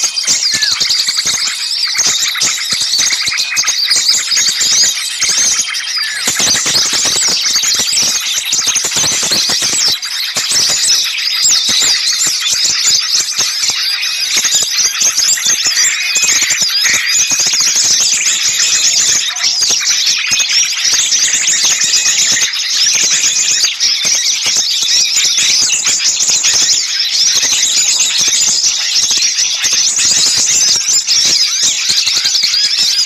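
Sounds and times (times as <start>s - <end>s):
songbirds chirping frantically: 0.0s - 33.0s.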